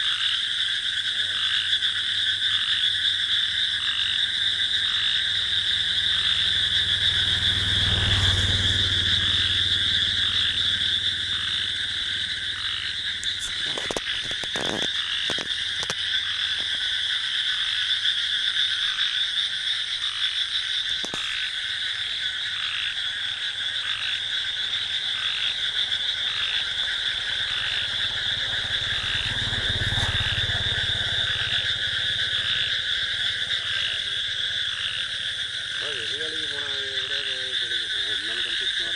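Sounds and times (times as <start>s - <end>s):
pulsing animal call: 0.0s - 15.8s, 22.0s - 38.9s
crickets chirping: 0.0s - 38.9s
frogs calling: 0.0s - 38.9s.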